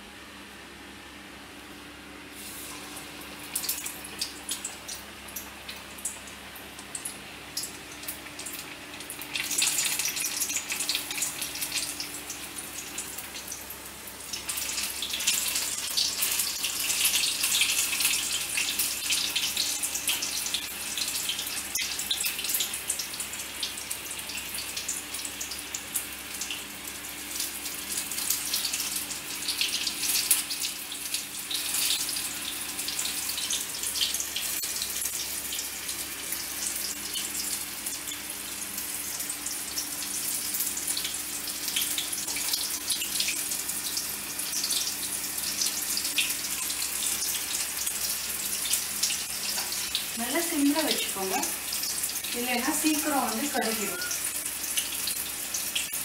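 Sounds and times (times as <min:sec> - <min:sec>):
food deep-frying in hot oil: 0:02.1 - 0:56.0.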